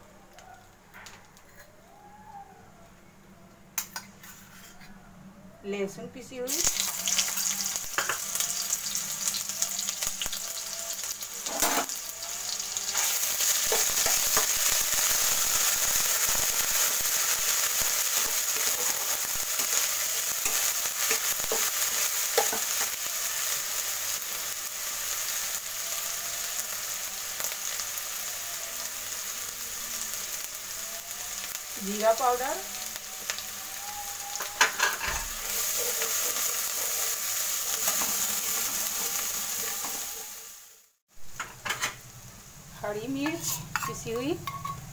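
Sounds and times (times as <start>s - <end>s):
food sizzling in hot oil: 6.5s - 44.9s.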